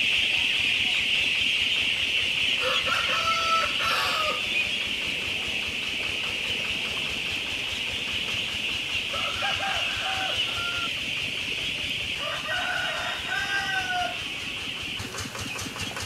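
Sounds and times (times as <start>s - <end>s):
ducklings peeping: 0.0s - 16.0s
lower bird call: 0.0s - 16.0s.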